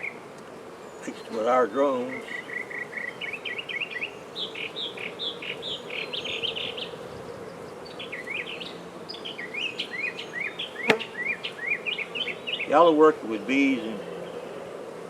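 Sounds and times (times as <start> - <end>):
songbird chirping: 0.0 - 14.7
bees humming: 0.0 - 15.0.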